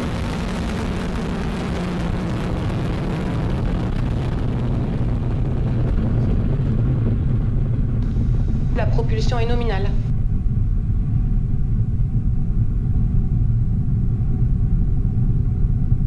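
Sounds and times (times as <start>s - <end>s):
rocket motor rumbling: 0.0s - 16.0s.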